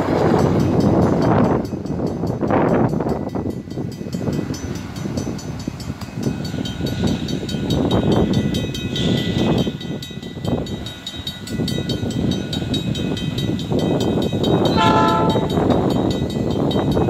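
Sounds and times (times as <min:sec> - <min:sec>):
crossing warning bell ringing: 0:00.0 - 0:17.0
wind buffeting microphone: 0:00.0 - 0:17.0.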